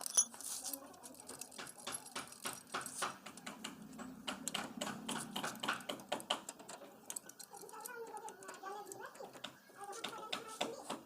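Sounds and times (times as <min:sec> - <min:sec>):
tools clicking on metal parts: 0:00.0 - 0:09.6.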